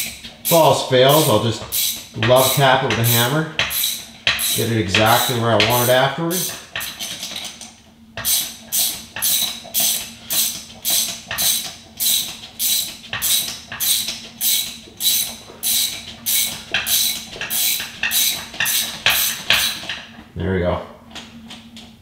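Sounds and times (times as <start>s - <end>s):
ratchet wrench clicking: 0.0s - 7.5s, 8.2s - 19.9s.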